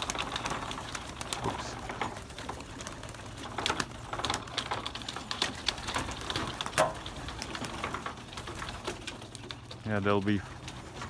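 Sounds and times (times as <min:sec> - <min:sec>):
pigeons scrabbling and landing: 0:00.0 - 0:11.0.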